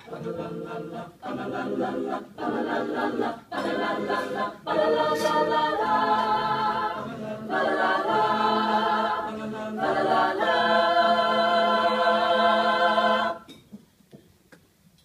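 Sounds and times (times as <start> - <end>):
a cappella choir singing: 0.0 - 13.6.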